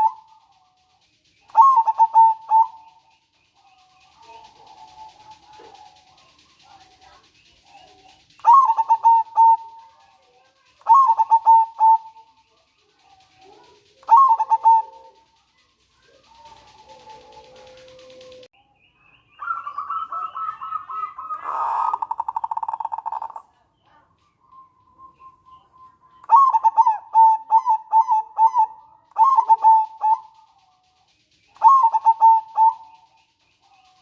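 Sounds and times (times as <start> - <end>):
dove rattling trill: 0.0 - 18.5, 19.4 - 34.0
dove staccato cooing: 0.0 - 18.5, 19.5 - 34.0.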